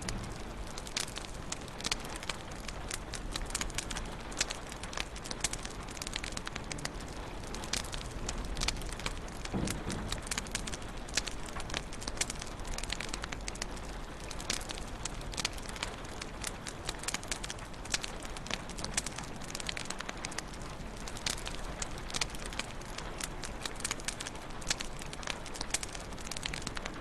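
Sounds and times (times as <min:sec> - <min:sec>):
low hiss of burning: 0:00.0 - 0:27.0
wood fire crackling and popping: 0:00.0 - 0:27.0.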